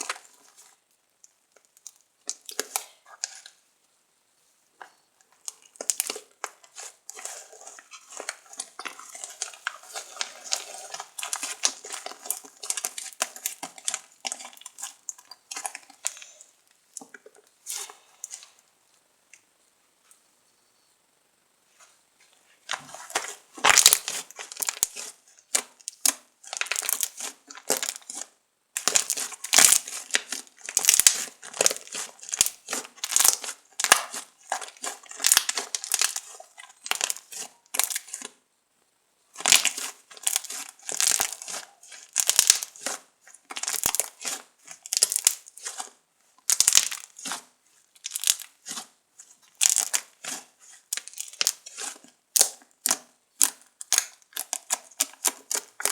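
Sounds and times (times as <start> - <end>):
slime crackling and popping: 0.0 - 3.6, 5.3 - 18.5, 22.7 - 38.4, 39.3 - 55.9.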